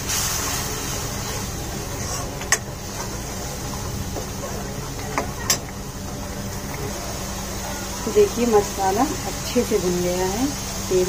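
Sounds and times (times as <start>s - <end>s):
masala sizzling in oil: 0.0s - 11.0s.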